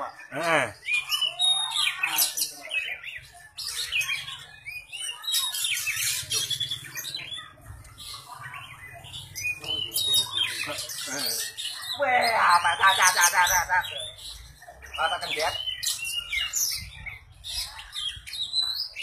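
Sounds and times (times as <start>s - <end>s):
bird singing chattering and whistles: 0.2s - 19.0s.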